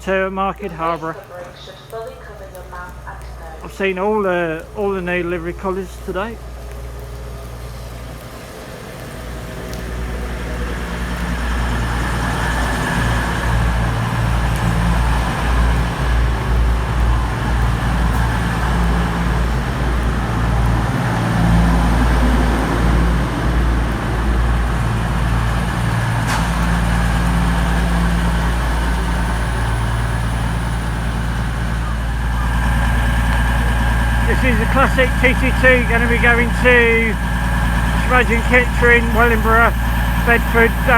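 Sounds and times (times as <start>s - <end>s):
train diesel engine rumble: 0.0s - 40.9s.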